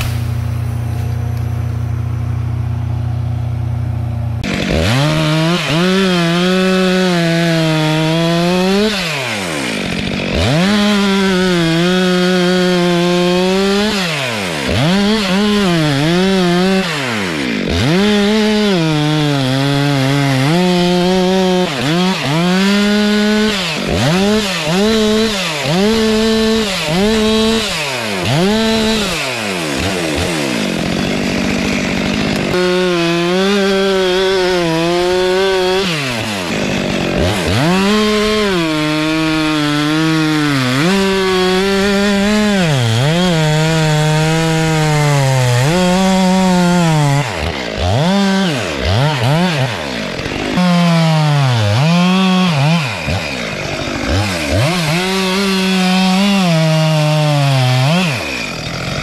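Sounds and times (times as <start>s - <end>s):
chainsaw cutting logs: 0.0s - 59.0s.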